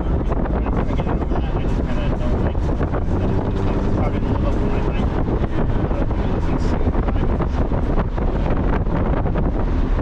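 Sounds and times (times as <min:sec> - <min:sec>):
car road and engine noise: 0:00.0 - 0:10.0
wind buffeting microphone: 0:00.0 - 0:10.0.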